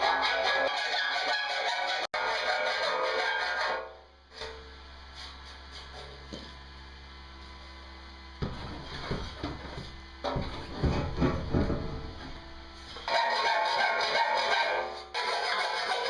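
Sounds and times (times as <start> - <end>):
rough workshop noise: 0.0 - 16.0
low electrical hum: 2.2 - 16.0.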